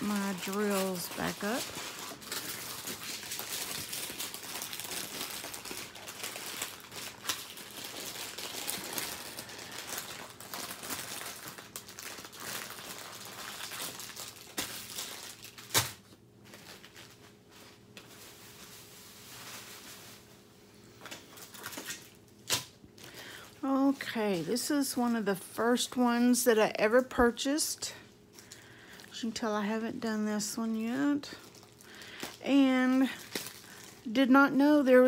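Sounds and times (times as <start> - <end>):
plastic bags crinkling: 0.0 - 35.0.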